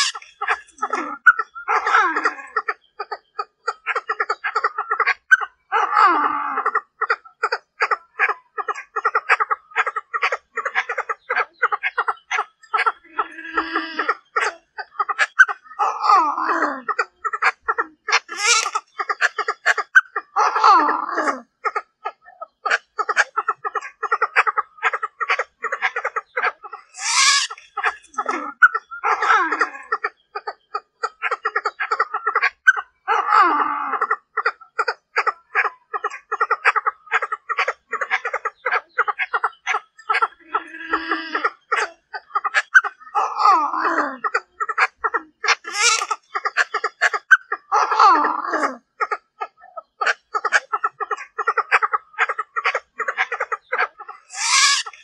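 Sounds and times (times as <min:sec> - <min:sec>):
bird clucking call: 0:00.0 - 0:55.0.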